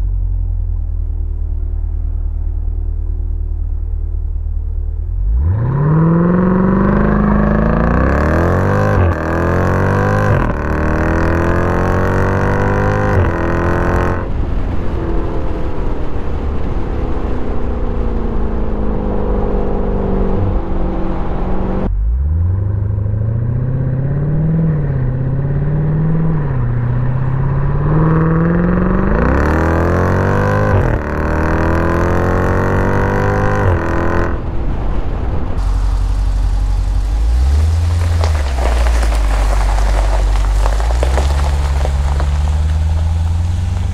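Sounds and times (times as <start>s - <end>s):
car engine accelerating hard: 1.0s - 43.9s.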